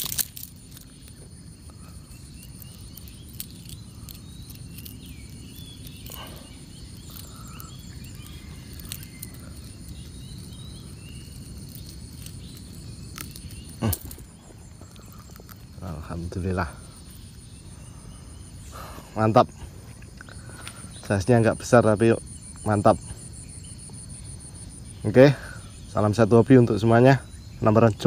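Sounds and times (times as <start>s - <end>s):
low wind rumble: 0.0s - 28.0s
small birds chirping: 0.0s - 28.0s.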